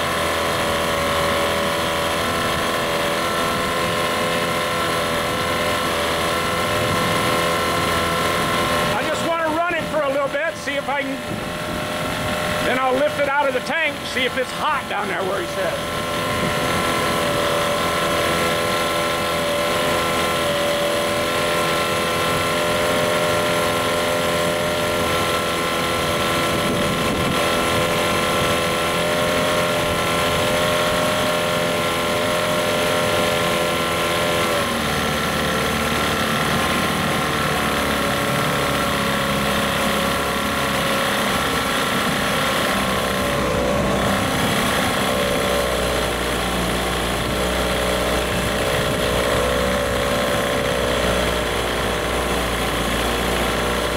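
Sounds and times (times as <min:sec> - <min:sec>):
outboard motor running: 0:00.0 - 0:53.9
propeller churning water: 0:00.0 - 0:53.9.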